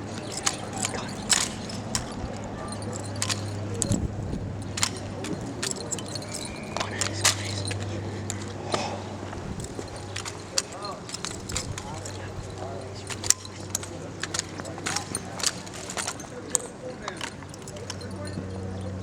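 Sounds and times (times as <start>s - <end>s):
drill rifles slapping and clacking: 0.0s - 18.7s
steady low hum: 0.0s - 19.0s.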